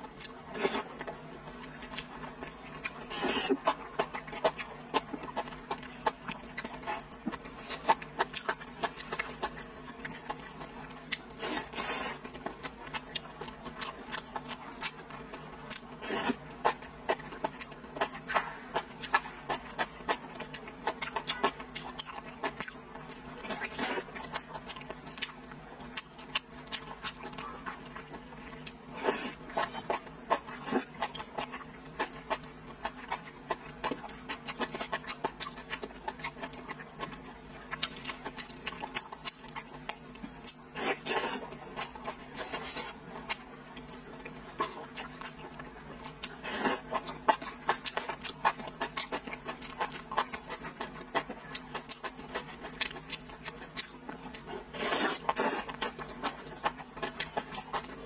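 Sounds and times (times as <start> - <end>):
chewing and lip-smacking: 0.0 - 58.0.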